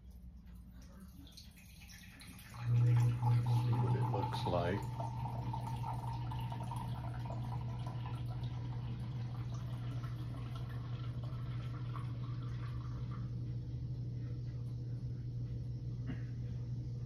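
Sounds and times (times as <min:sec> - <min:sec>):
liquid trickling and dripping: 0:00.0 - 0:13.9
vacuum pump humming: 0:00.0 - 0:17.0.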